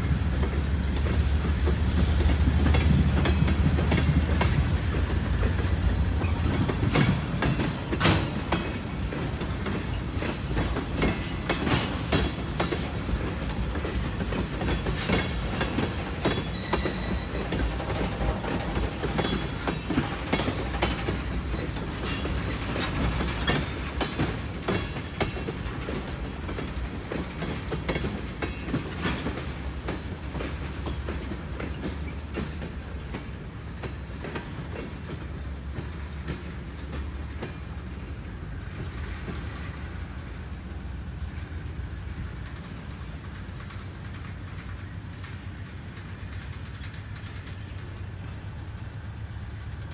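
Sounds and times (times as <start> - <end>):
clickety-clack of wheel clicks: 0.0 - 38.1, 42.3 - 48.9
train wheels rumbling on rail: 0.0 - 49.9
faint high wheel squeals: 4.2 - 45.7.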